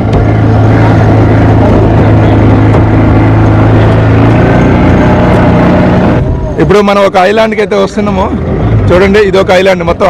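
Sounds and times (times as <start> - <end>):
motorboat engine drone: 0.0 - 10.0
water noise: 0.0 - 10.0.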